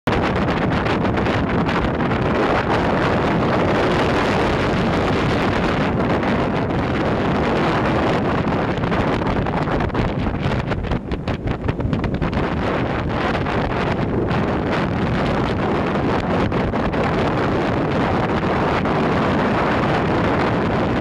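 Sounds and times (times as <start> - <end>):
boat motor running: 0.1 - 21.0
wind buffeting microphone: 0.1 - 21.0.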